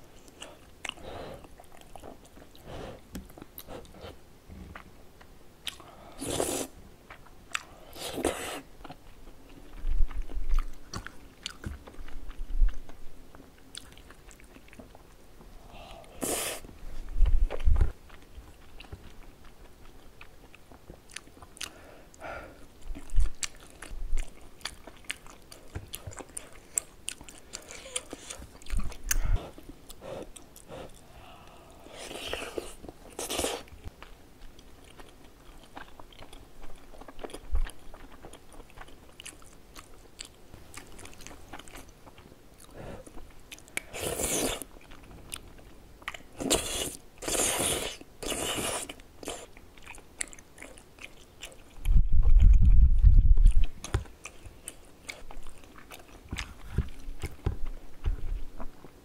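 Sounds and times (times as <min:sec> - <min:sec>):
chewing with wet mouth noises: 0:00.0 - 0:59.0.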